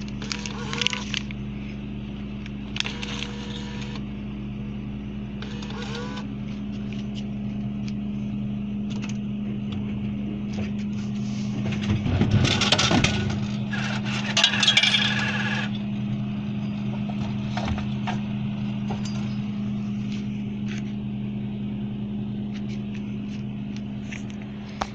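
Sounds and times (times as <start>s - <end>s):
vending machine humming: 0.0s - 24.9s.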